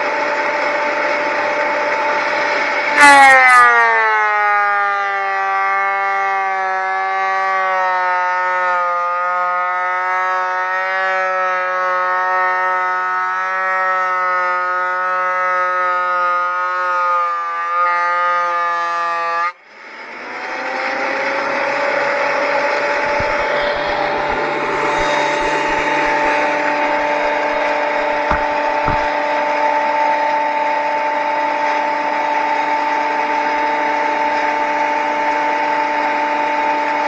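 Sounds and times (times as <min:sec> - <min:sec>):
planer motor whining: 0:00.0 - 0:37.0.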